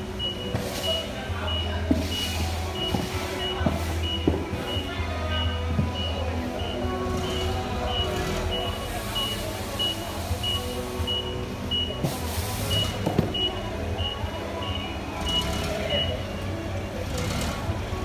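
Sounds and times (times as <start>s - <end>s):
forklift backup alarm beeping: 0.0s - 17.4s
forklift engine running: 0.0s - 18.0s.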